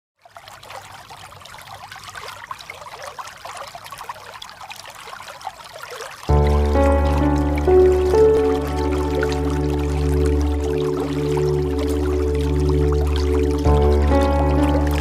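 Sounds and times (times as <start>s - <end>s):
water trickling and babbling: 0.2s - 15.0s.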